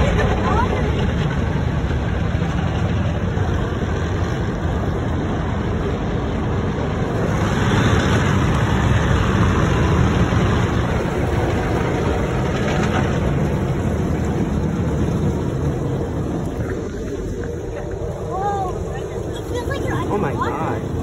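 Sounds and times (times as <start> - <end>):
car wash rumble: 0.0 - 21.0.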